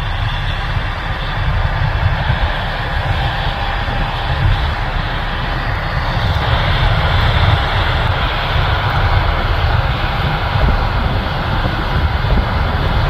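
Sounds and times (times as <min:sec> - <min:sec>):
tractor engine rumble: 0:00.0 - 0:13.0.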